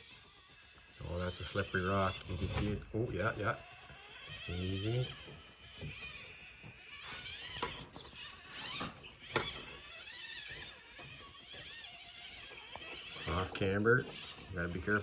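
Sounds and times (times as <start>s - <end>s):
small motor and gearbox whining: 0.0s - 15.0s.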